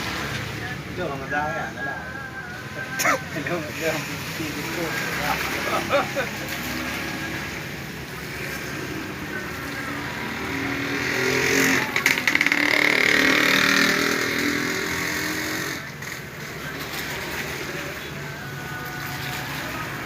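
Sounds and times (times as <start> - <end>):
vehicle engine: 0.0 - 20.0.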